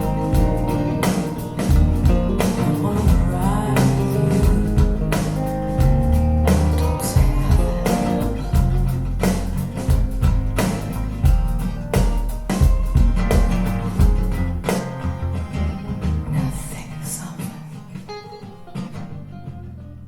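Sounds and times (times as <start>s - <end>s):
song with guitar bass and drums: 0.0s - 16.9s, 17.6s - 20.0s.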